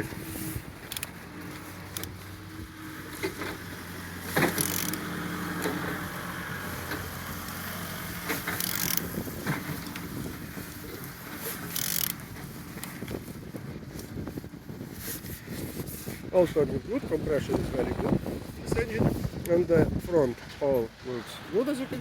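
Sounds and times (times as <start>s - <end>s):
engine turning clicks and knocks: 0.0s - 22.0s.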